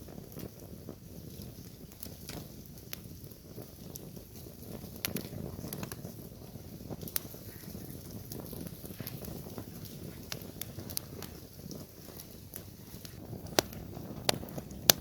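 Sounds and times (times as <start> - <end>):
burning wood crackling and popping: 0.0 - 15.0
low rush of flame: 0.0 - 15.0.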